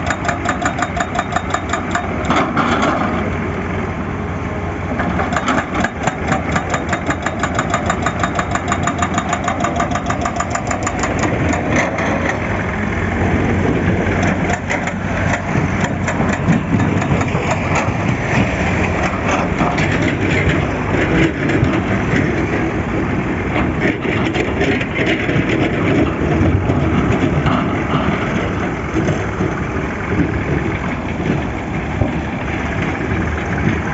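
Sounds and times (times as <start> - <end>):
heavy machinery diesel engine: 0.0 - 33.9.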